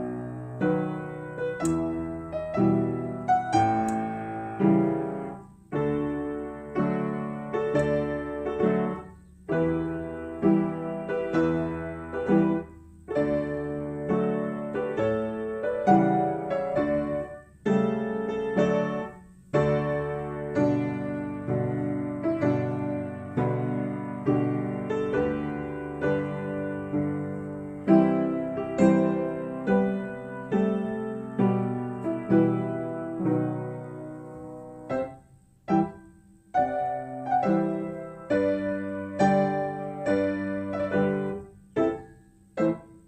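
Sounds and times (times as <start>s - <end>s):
solo piano chords: 0.0s - 43.0s.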